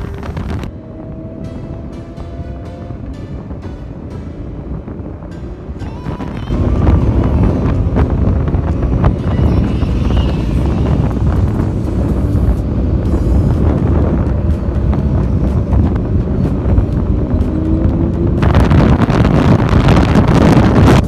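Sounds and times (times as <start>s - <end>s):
motorcycle engine and road rumble: 0.0s - 21.0s
wind buffeting microphone: 0.0s - 21.0s.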